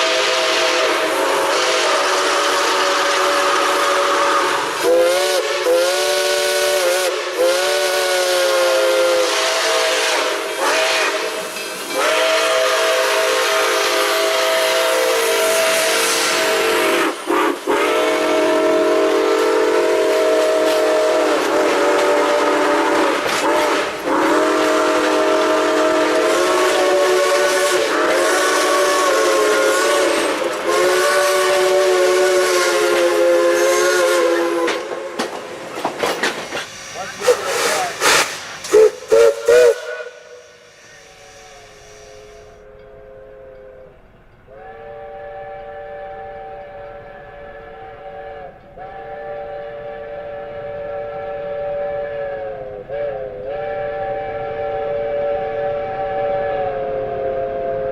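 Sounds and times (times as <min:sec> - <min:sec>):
steam locomotive chime whistle: 0:00.0 - 0:35.3, 0:36.8 - 0:57.9
steam hissing: 0:00.0 - 0:57.9.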